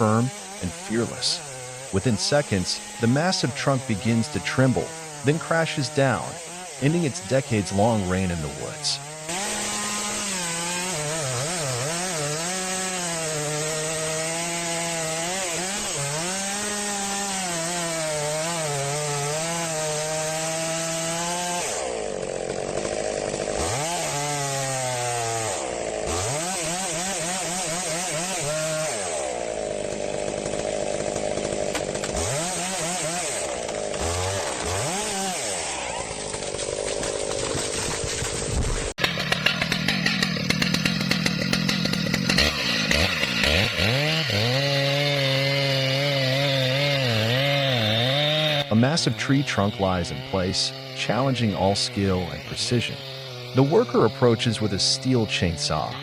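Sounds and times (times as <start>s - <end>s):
chainsaw running and revving: 0.0s - 56.0s.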